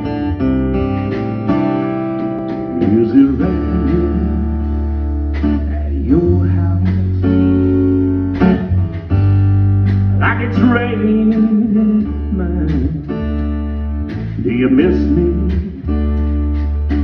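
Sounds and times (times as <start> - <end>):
acoustic guitar strumming: 0.0 - 17.0
bass line: 0.0 - 17.0
country band playing: 0.0 - 17.0
drums: 0.0 - 17.0.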